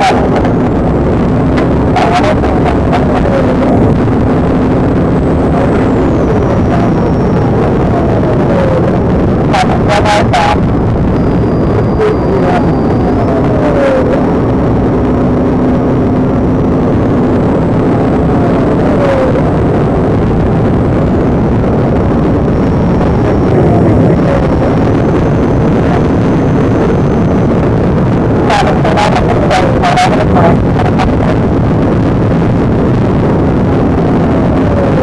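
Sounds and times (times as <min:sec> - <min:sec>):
faint constant hum: 0:00.0 - 0:35.0
vehicle noise: 0:00.0 - 0:35.0.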